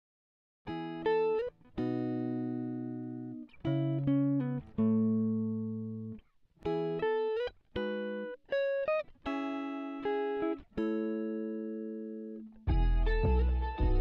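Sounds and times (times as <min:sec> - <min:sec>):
plucked guitar music: 0:00.7 - 0:14.0.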